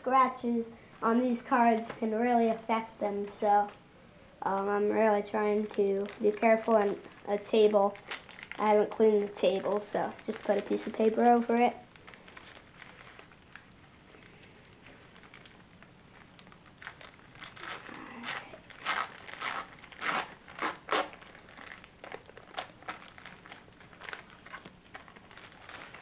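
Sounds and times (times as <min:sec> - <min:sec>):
foil wrapper tearing and crinkling: 0:04.6 - 0:26.0.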